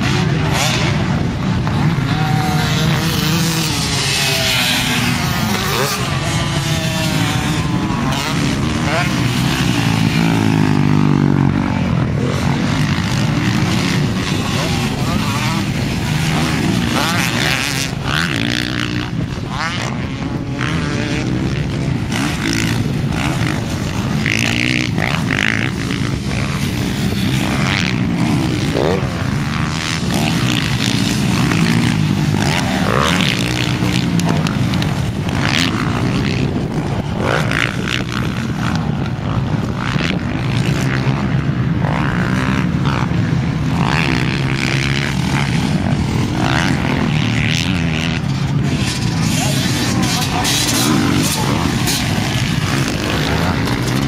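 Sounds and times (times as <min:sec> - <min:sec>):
dirt bike engines racing: 0:00.0 - 0:54.0.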